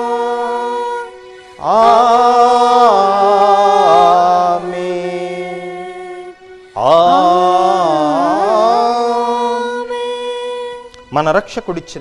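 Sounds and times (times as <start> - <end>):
slow sung liturgical chant: 0.0 - 11.0.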